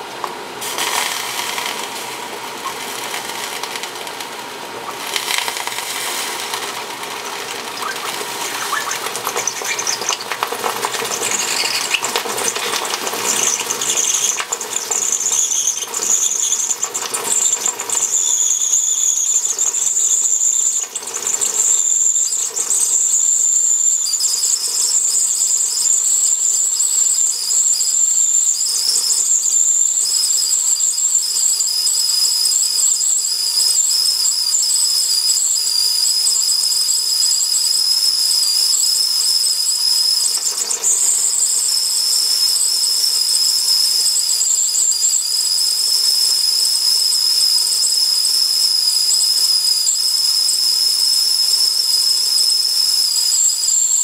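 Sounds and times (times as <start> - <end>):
kettle sputtering and hissing: 0.0 - 54.0
lower kettle whistle: 4.6 - 54.0
high kettle whistle: 4.8 - 54.0.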